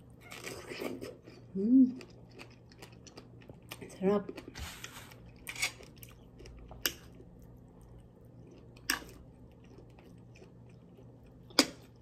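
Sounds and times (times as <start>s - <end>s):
chewing food close up: 0.0s - 4.6s, 5.2s - 12.0s.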